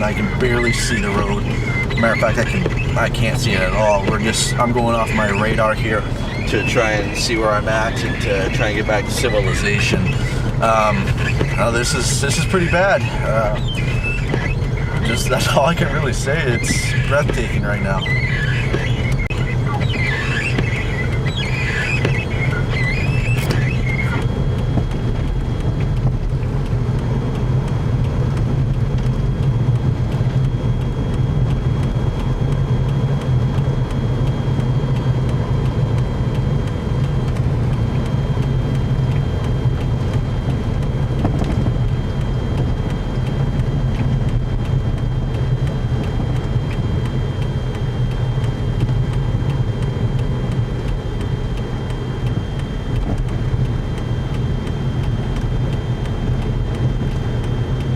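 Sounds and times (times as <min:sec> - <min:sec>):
car engine and tyre drone: 0:00.0 - 0:57.9.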